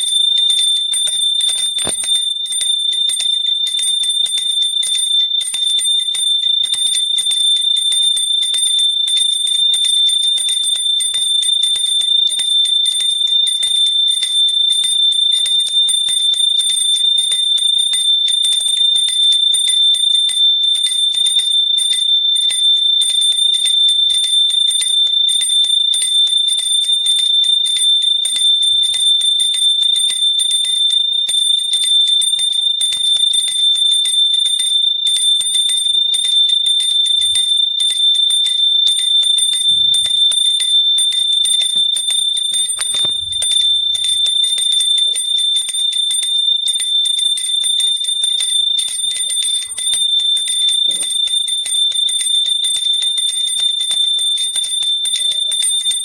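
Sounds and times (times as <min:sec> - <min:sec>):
small hand bell ringing fast: 0:00.0 - 0:56.0.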